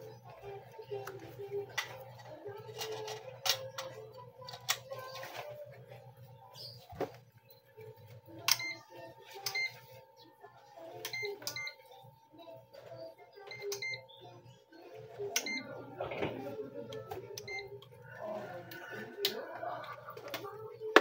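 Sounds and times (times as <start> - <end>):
faint background music: 0.0 - 21.0.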